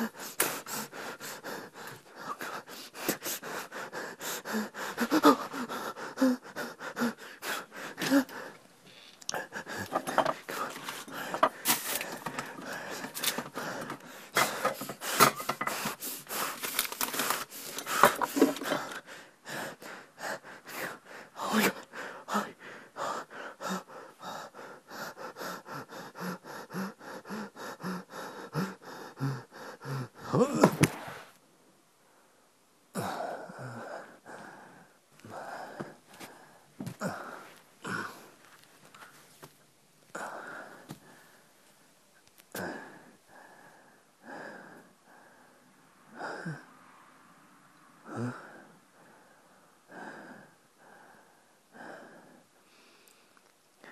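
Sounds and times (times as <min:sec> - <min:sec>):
person breathing hard and gasping: 0:00.0 - 0:31.2, 0:32.9 - 0:38.4, 0:40.1 - 0:41.5, 0:42.5 - 0:46.8, 0:48.0 - 0:53.9.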